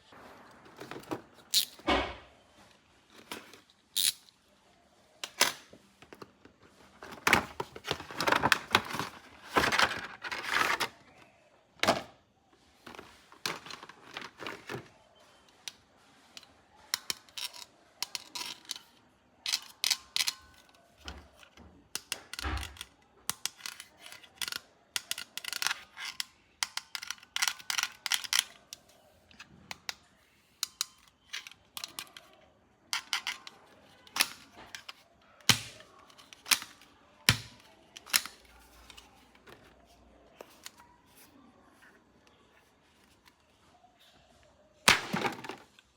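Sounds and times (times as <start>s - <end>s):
plastic toys clicking and clacking: 3.1s - 4.4s, 5.2s - 11.2s, 12.8s - 44.2s, 44.8s - 45.9s.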